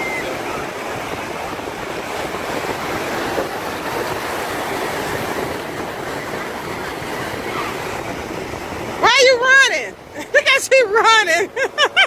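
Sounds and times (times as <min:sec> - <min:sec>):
ocean waves breaking on beach: 0:00.0 - 0:12.0.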